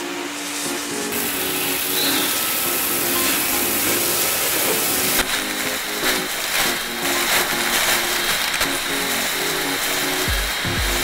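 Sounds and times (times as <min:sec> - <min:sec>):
faint background music: 0:00.0 - 0:11.0
vacuum cleaner suction hiss: 0:00.0 - 0:11.0.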